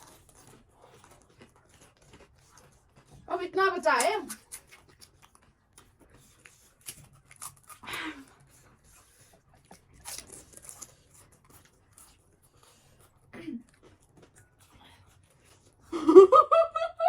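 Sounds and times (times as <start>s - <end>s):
crunching while chewing: 0.0s - 16.0s.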